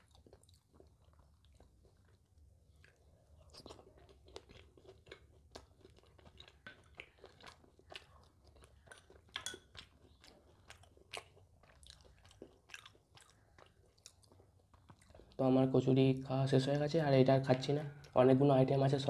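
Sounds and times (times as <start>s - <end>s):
chewing crunchy fried food: 0.0s - 15.4s.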